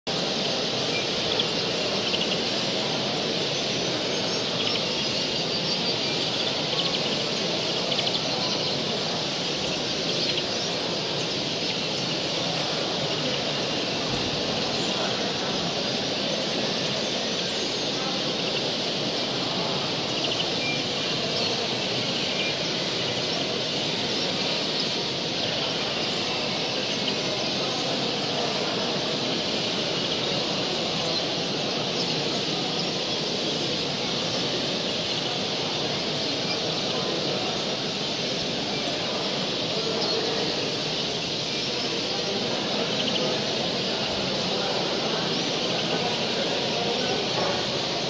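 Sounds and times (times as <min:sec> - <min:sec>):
songbirds chirping and calling: 0:00.1 - 0:48.0.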